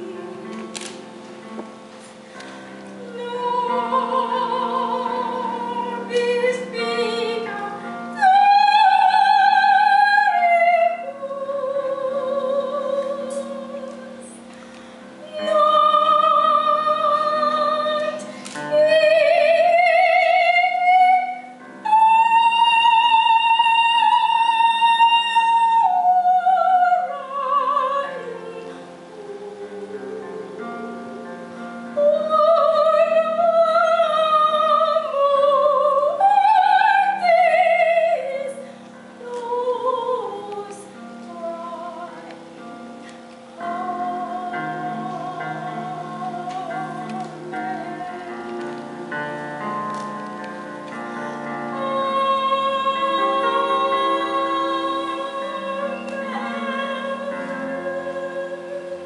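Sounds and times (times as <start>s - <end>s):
soft instrumental accompaniment: 0.0s - 59.0s
woman singing operatically: 3.0s - 14.5s, 15.2s - 31.3s, 31.9s - 42.4s, 43.6s - 50.0s, 51.4s - 59.0s.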